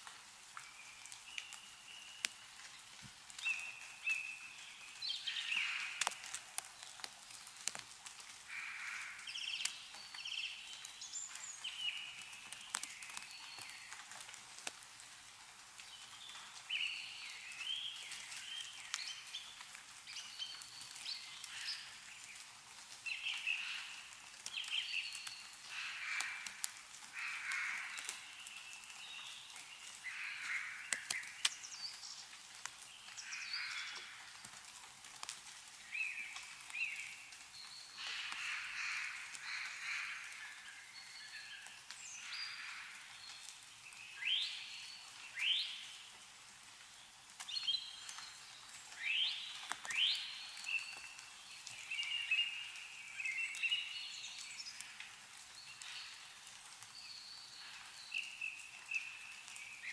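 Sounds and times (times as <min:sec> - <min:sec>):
meltwater dripping: 0:00.0 - 0:59.9
small birds chirping: 0:00.6 - 0:07.9, 0:08.5 - 0:14.8, 0:15.7 - 0:59.9.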